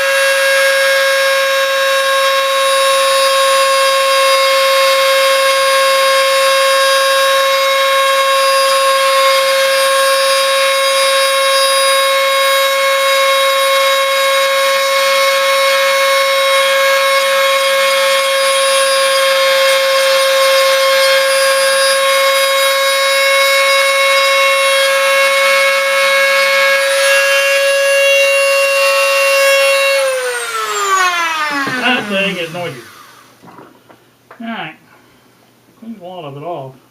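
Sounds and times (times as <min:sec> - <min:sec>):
rotary tool high whine: 0:00.0 - 0:33.5.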